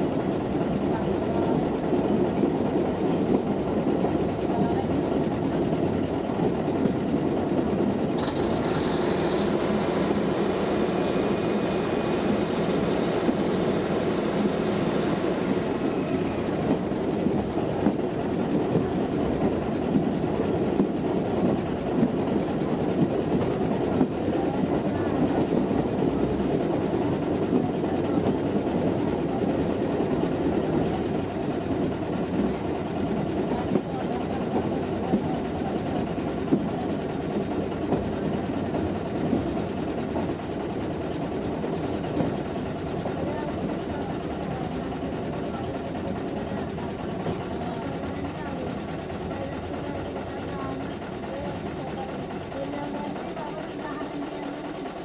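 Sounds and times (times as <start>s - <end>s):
railbus rumbling along track: 0.0s - 55.0s.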